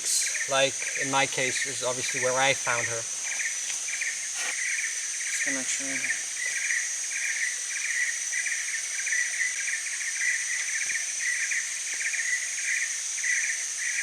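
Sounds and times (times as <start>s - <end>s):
high-pitched insect drone: 0.0s - 14.0s
insect pulsed trill: 0.0s - 14.0s.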